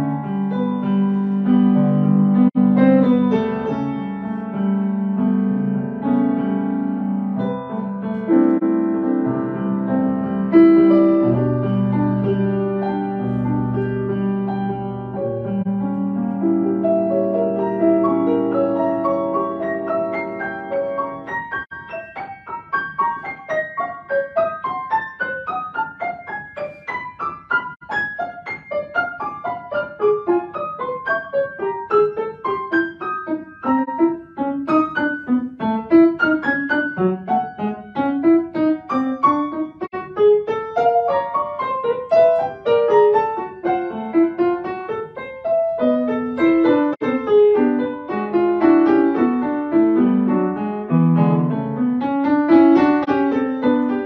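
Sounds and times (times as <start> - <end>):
solo grand piano: 0.0 - 54.0.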